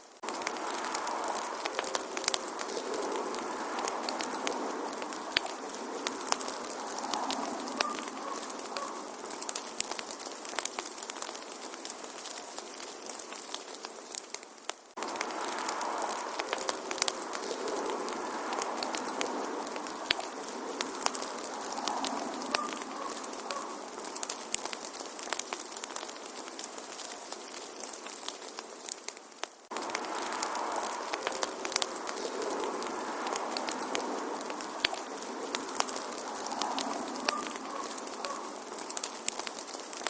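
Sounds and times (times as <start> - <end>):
soft steady hiss: 0.0 - 40.0
wood fire crackling and popping: 0.0 - 40.0.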